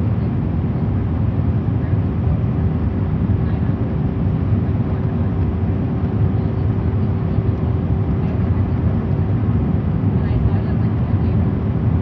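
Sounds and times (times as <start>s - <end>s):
airliner engines droning: 0.0s - 12.0s.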